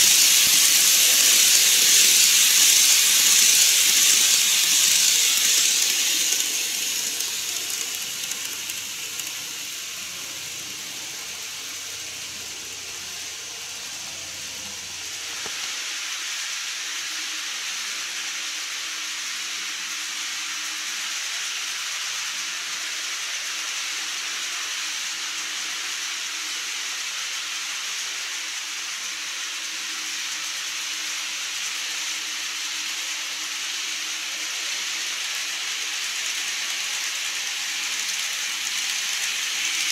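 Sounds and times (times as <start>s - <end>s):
model train motor whirring: 0.0s - 39.9s
model train running hiss: 0.0s - 39.9s.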